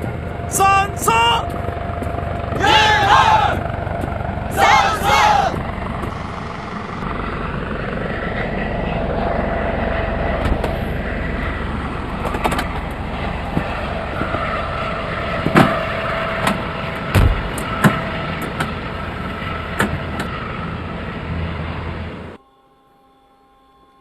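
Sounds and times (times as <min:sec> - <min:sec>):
helicopter engine running: 0:00.0 - 0:22.4.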